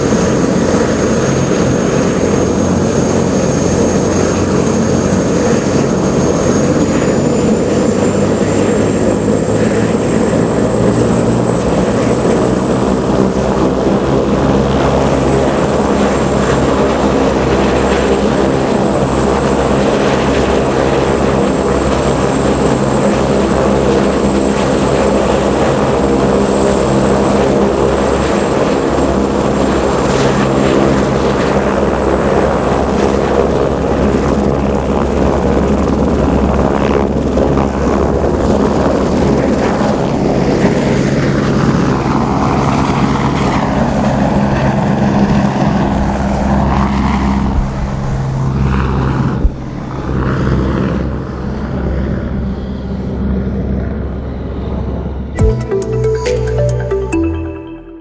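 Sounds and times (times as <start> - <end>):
helicopter turbine and rotor: 0.0 - 55.4.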